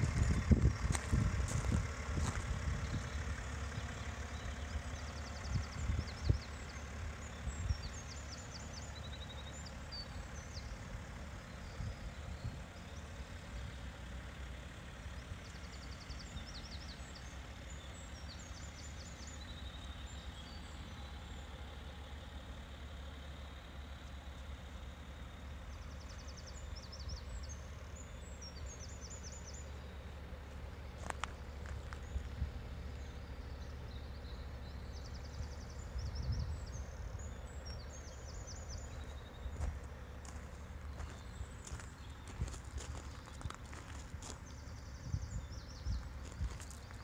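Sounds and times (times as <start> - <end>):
steady low rumble: 0.0 - 14.3, 19.4 - 47.0
songbird singing: 0.0 - 47.0.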